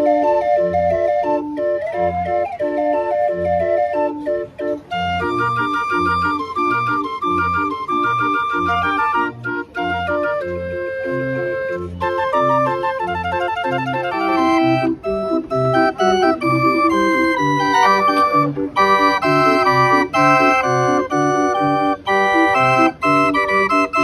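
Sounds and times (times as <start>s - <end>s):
barrel organ playing: 0.0s - 24.0s.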